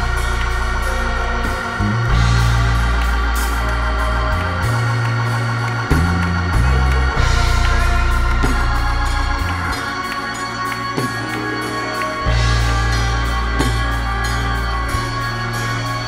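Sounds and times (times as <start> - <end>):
organ playing chords: 0.0 - 16.0.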